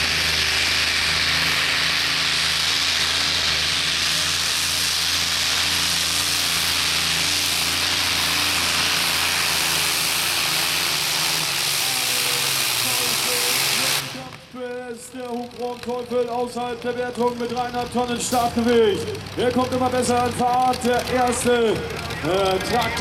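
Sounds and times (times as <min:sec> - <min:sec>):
tractor engine at full throttle: 0:00.0 - 0:23.0.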